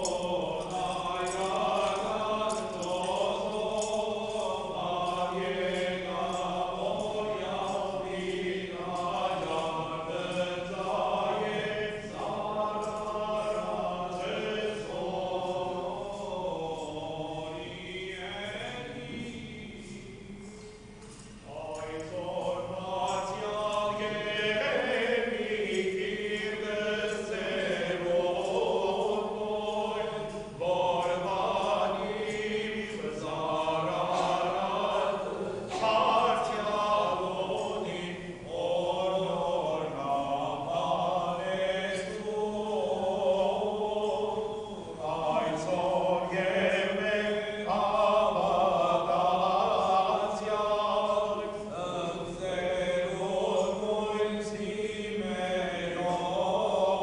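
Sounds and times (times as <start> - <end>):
choir chanting: 0.0 - 57.0.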